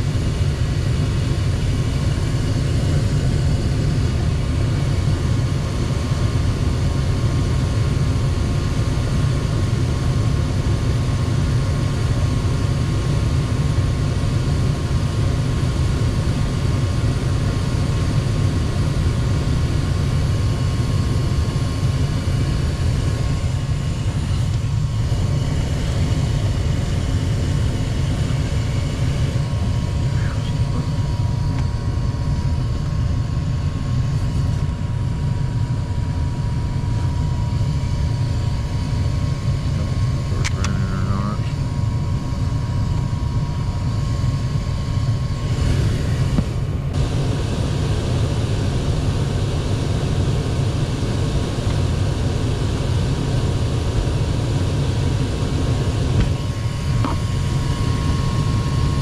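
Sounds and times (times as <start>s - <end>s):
gas furnace low rumble: 0.0s - 59.0s.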